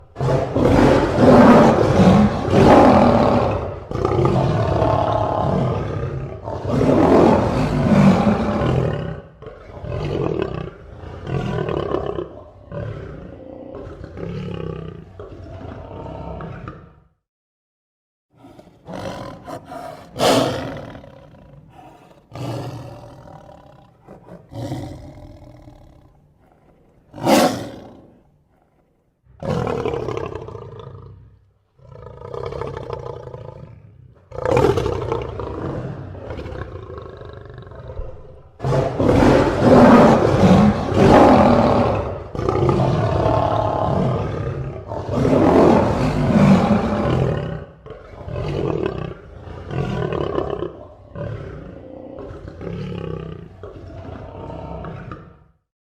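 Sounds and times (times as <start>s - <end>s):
lion roaring and growling: 0.0s - 17.1s, 18.4s - 55.6s.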